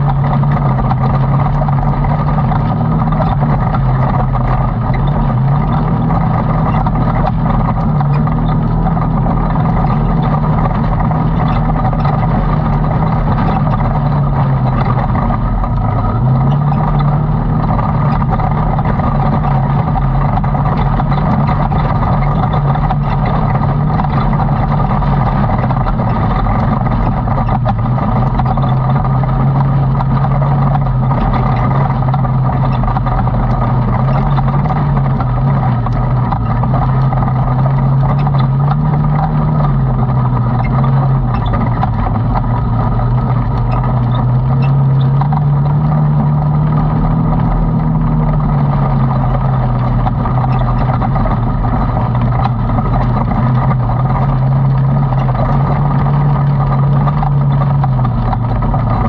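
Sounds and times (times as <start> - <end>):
small ticks and rattles: 0.0 - 59.0
utility vehicle engine running: 0.0 - 59.0.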